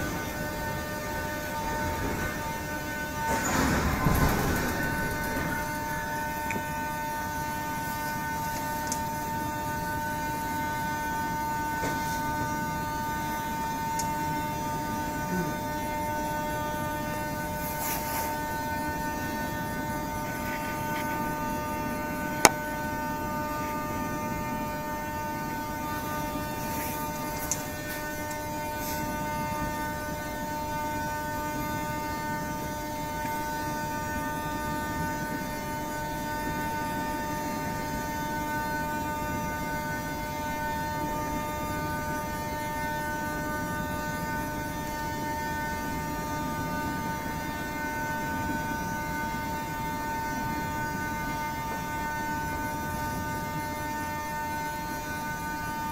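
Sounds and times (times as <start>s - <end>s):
train electrical hum and whine: 0.0s - 55.9s.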